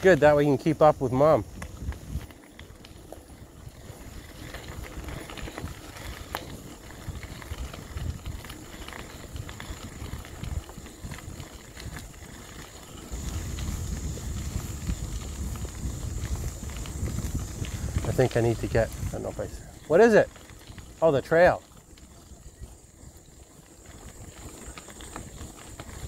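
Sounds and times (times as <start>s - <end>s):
bicycle tyres rolling on gravel: 0.0s - 26.0s.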